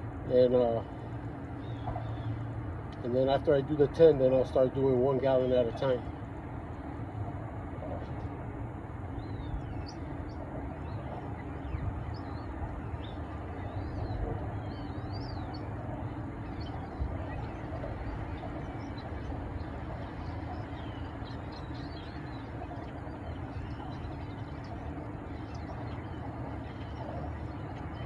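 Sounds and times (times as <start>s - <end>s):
low background rumble: 0.0s - 28.0s
small birds chirping: 0.4s - 28.0s.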